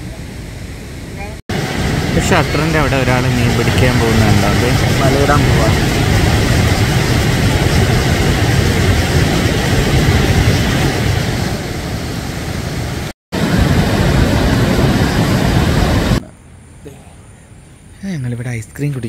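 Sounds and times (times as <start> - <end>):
vehicle road and wind noise: 0.0 - 17.9.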